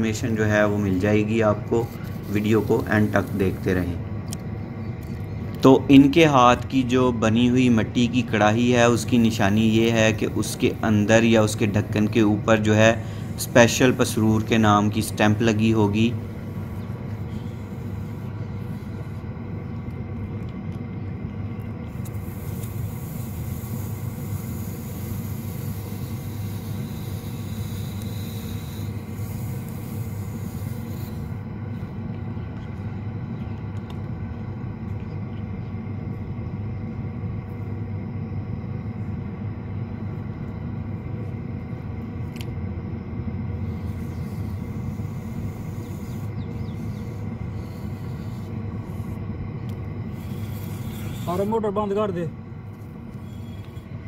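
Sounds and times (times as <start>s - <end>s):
potter's wheel motor humming: 0.0s - 54.0s.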